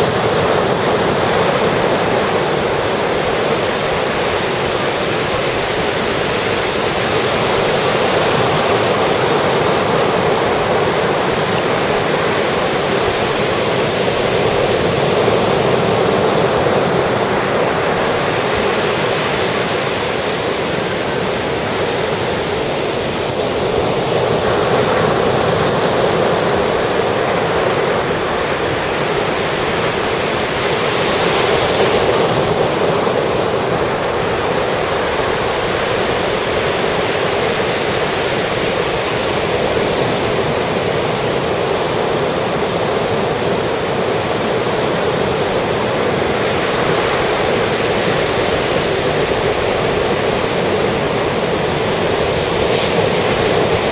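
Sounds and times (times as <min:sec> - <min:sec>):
surf breaking on beach: 0:00.0 - 0:53.9.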